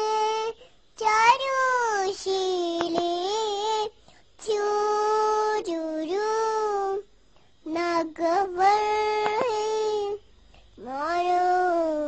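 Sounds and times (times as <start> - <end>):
child singing wordless notes: 0.0 - 10.2, 10.8 - 12.0.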